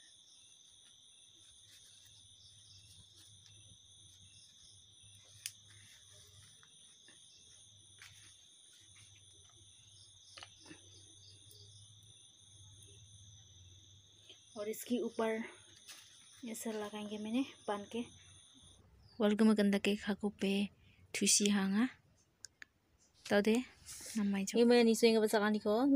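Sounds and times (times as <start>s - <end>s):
crickets chirring: 0.0s - 21.9s.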